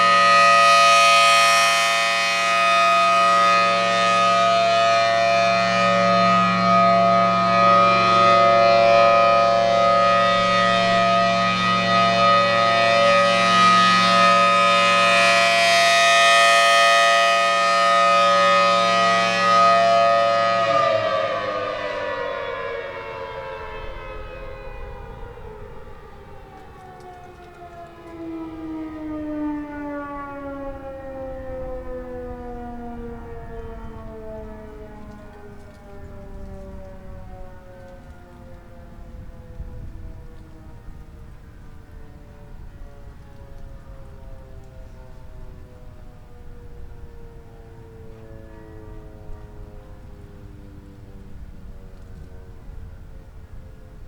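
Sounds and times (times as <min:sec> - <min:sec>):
siren steady alert tone: 0:00.0 - 0:54.0
siren winding down: 0:00.0 - 0:54.0.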